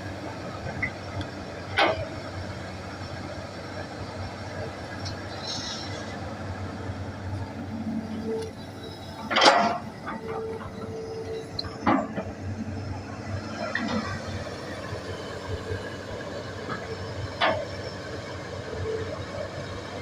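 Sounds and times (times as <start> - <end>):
excavator engine humming: 0.0 - 20.0.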